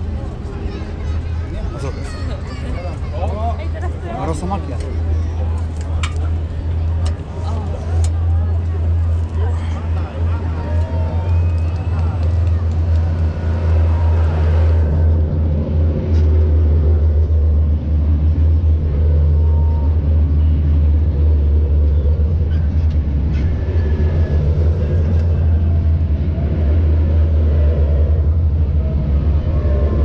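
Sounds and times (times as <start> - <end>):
armoured vehicle diesel engines: 0.0 - 30.0.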